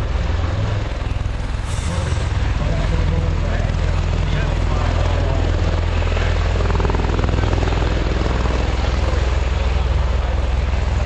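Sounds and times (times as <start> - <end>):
aircraft engine with pulsing blades: 0.0 - 11.0.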